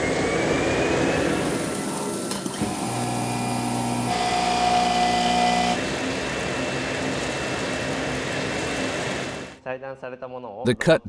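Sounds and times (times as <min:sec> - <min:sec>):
cutting plotter motors whining: 0:00.0 - 0:09.6.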